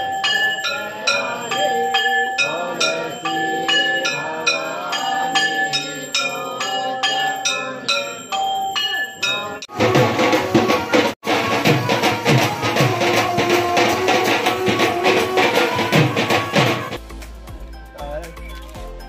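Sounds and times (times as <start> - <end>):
bell-like instrument ringing: 0.0 - 17.0.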